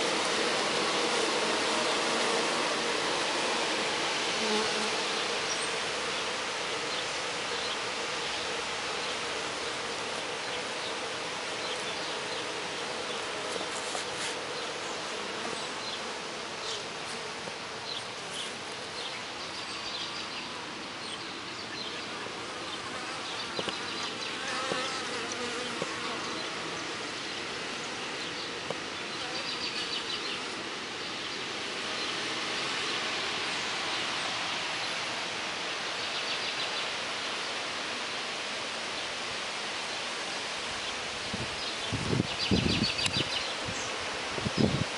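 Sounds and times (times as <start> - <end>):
bees buzzing: 0.0 - 39.1.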